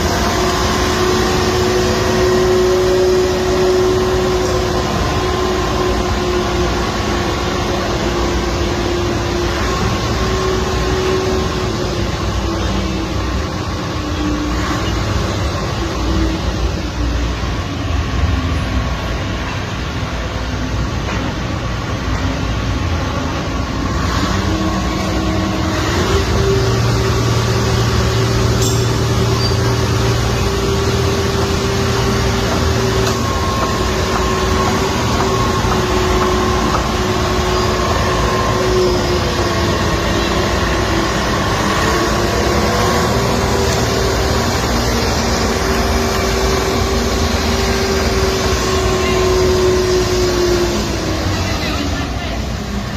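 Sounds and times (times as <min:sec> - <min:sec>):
heavy machinery engine drone: 0:00.0 - 0:52.9
machinery whine shifting in pitch: 0:00.0 - 0:52.9.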